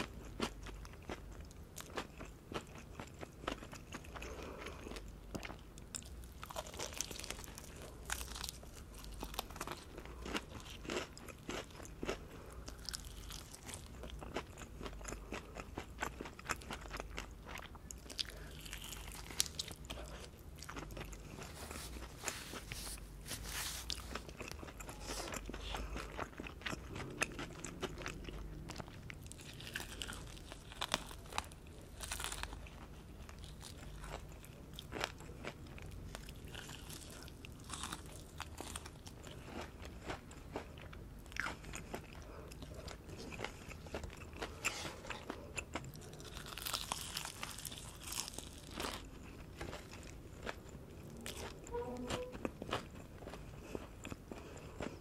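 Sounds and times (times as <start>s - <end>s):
crunching fried chicken: 0.0s - 55.0s.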